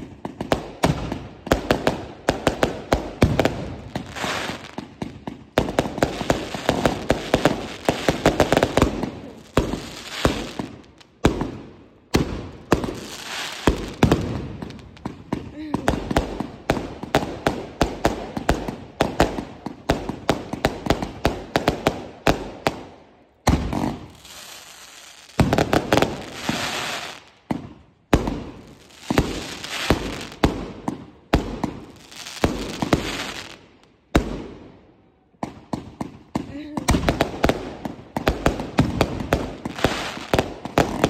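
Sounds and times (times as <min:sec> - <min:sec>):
fireworks bangs and pops: 0:00.0 - 0:34.8, 0:35.4 - 0:41.0.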